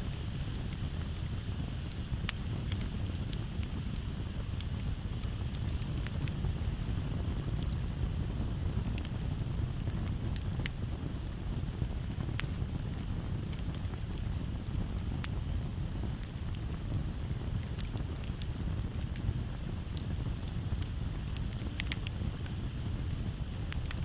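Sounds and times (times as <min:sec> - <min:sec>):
campfire crackling: 0:00.0 - 0:24.0
crickets chirring: 0:00.0 - 0:24.0
rush of flame and breeze: 0:00.0 - 0:24.0.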